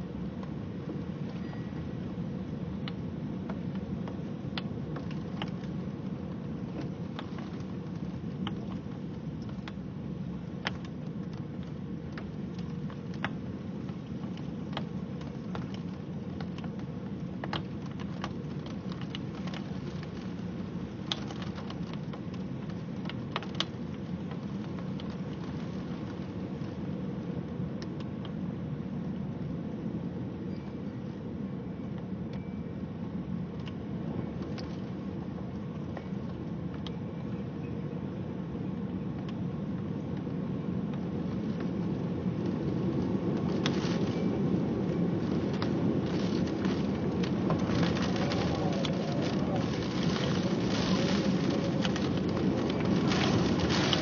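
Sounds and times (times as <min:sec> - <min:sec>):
raindrops ticking on hard surface: 0:00.0 - 0:29.8, 0:31.9 - 0:37.6, 0:38.4 - 0:54.0
storm rain: 0:00.0 - 0:54.0
wind: 0:00.0 - 0:54.0.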